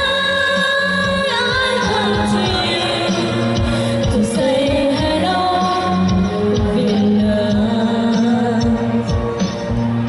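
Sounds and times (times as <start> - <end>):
girls singing into microphones: 0.0 - 9.4
musical accompaniment: 0.0 - 10.0.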